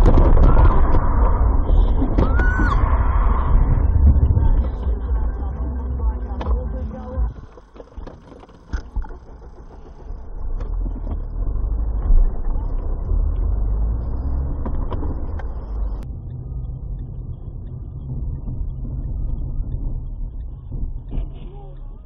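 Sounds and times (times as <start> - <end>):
car droning: 0.0 - 22.0
car engine and tyres rumbling: 0.0 - 22.0.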